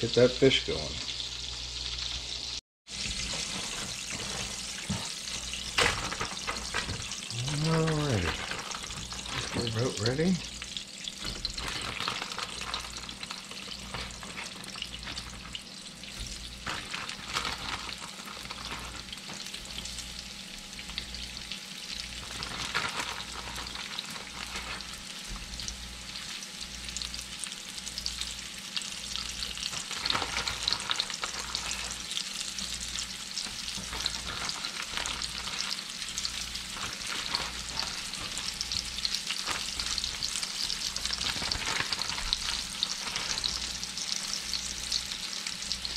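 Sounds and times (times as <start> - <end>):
fish sizzling in hot fat: 0.0 - 45.9.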